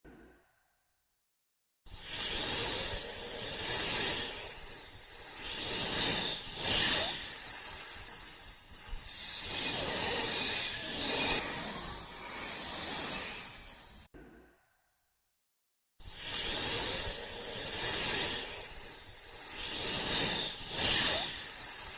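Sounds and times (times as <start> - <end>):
snake hissing: 1.9 - 14.1, 16.0 - 21.9.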